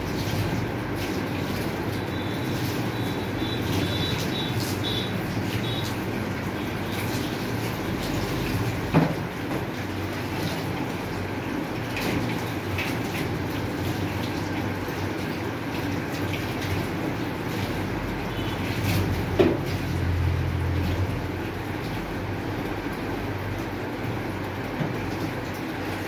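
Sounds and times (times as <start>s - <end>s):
water splashing into metal tub: 0.0s - 26.0s.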